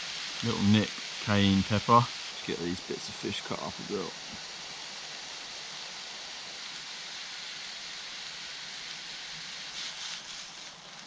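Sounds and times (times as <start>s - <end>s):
mushrooms sizzling in a frying pan: 0.0s - 11.0s.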